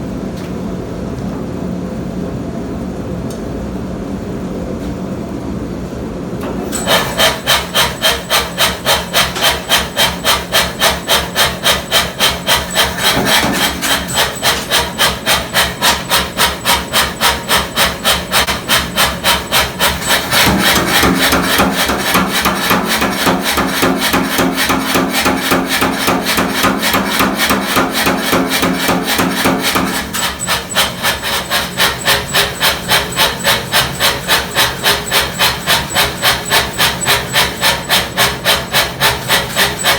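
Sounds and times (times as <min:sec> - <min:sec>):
power hammer striking hot steel: 0:06.7 - 0:39.9.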